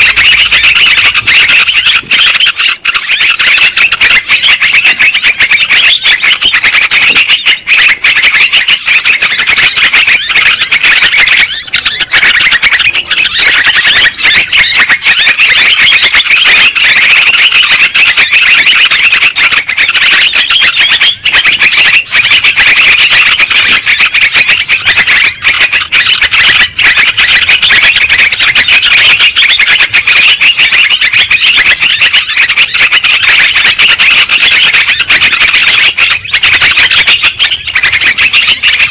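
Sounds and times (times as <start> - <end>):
bulbuls chattering: 0.0 - 38.9.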